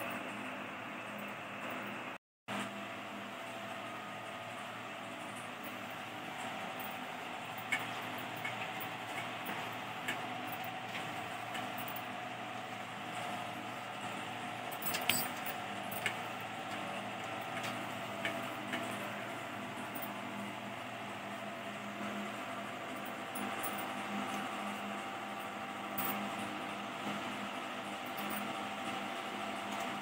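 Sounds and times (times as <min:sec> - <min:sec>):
fan-like hum: 0:00.0 - 0:30.0.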